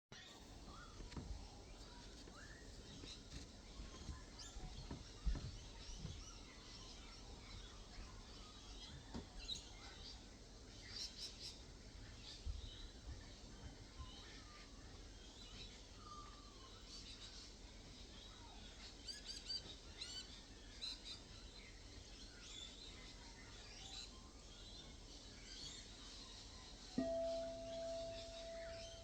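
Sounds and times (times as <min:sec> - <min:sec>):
low background noise: 0:00.2 - 0:29.0
birds chirping and trilling: 0:01.7 - 0:29.0.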